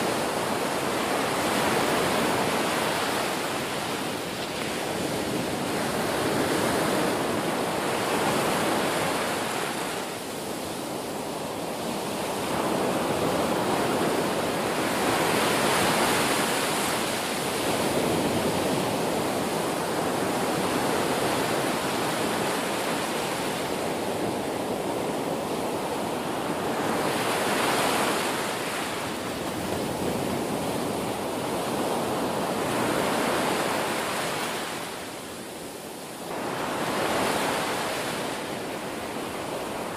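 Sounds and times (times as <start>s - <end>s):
ocean waves breaking in surf: 0.0s - 39.9s.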